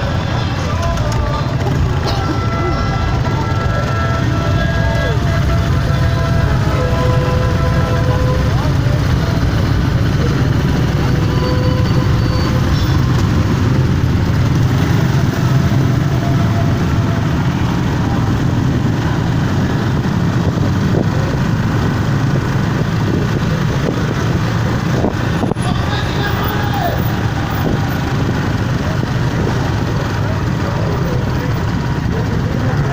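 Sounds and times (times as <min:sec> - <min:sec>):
motorcycle engines rumbling: 0:00.0 - 0:32.9.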